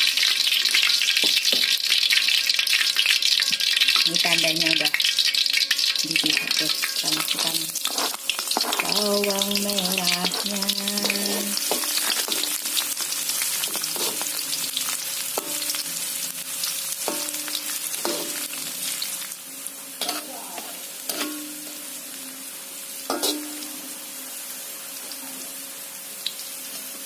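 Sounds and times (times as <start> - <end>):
shallots sizzling in hot oil: 0.0 - 27.0.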